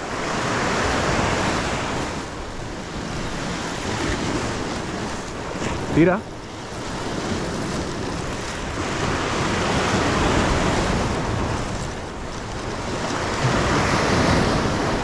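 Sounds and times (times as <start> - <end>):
sea waves breaking on shore: 0.0 - 15.0
wind buffeting microphone: 0.0 - 15.0.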